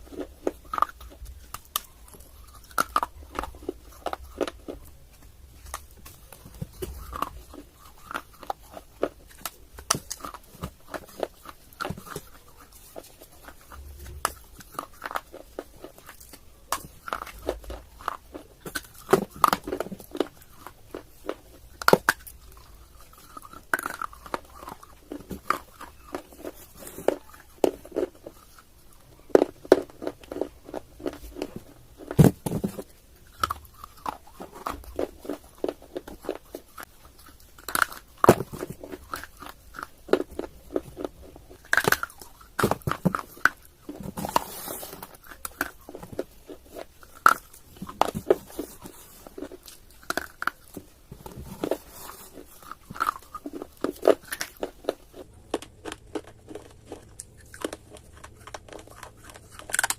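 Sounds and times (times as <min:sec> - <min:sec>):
gritty chewing: 0:00.0 - 0:59.9
pieces snapping: 0:00.1 - 0:28.6, 0:29.3 - 0:59.9.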